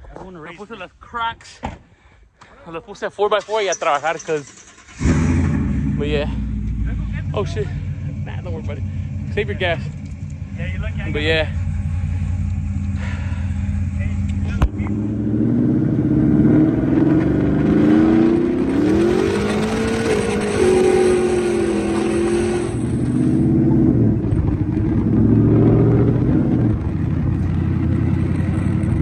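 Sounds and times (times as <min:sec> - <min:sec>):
wind and road noise: 0:03.6 - 0:29.0
pickup truck engine accelerating: 0:04.1 - 0:29.0.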